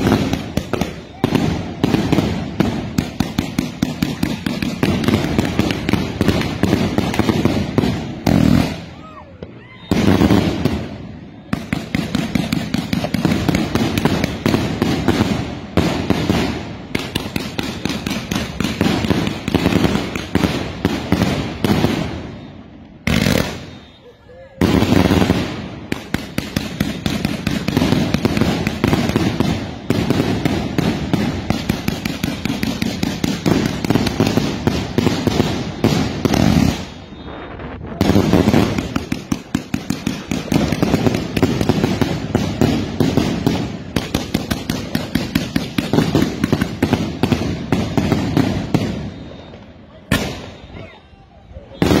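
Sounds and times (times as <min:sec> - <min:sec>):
firecrackers cracking and banging: 0:00.0 - 0:23.9, 0:24.5 - 0:50.9, 0:51.6 - 0:52.0.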